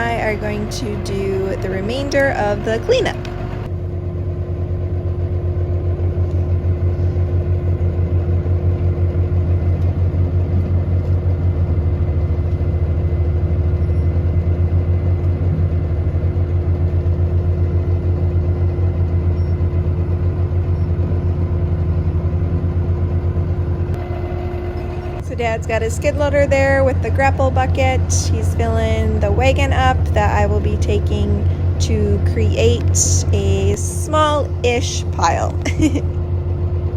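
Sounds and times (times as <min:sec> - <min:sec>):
constant hum: 0:00.0 - 0:36.9
farm machinery engine rumbling: 0:00.0 - 0:36.9.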